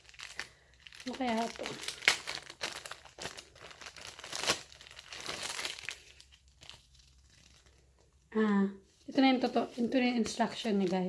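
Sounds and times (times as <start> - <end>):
paper crinkling and rustling: 0.0 - 8.1, 8.9 - 11.0.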